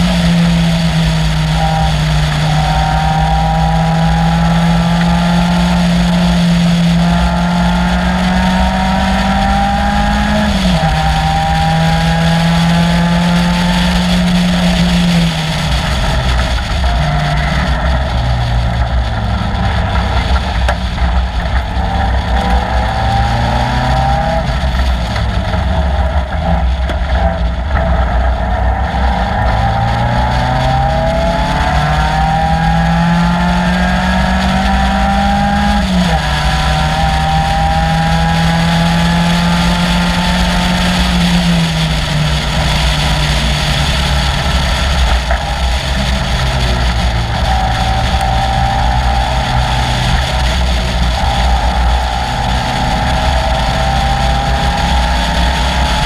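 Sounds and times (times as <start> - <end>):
racing car engine revving: 0.0 - 56.0
steady low noise: 0.0 - 56.0.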